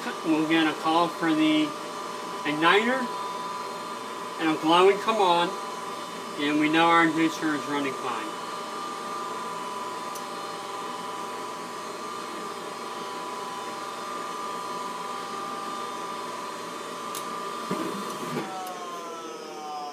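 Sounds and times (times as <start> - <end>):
furnace motor whining: 0.0 - 19.9.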